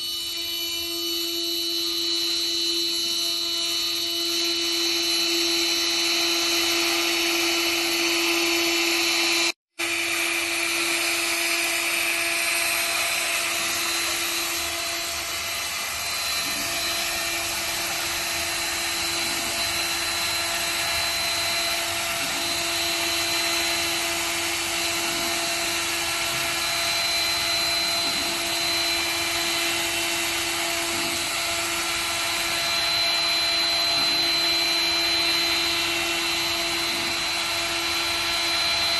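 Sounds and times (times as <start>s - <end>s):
machine noise: 0.0s - 38.9s
router spindle whine: 0.0s - 38.9s.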